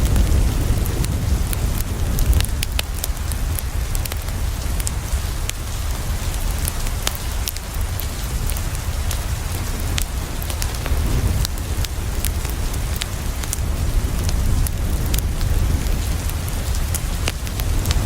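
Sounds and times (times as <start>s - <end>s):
rain on a window: 0.0s - 18.0s
wood fire crackling: 0.0s - 18.0s.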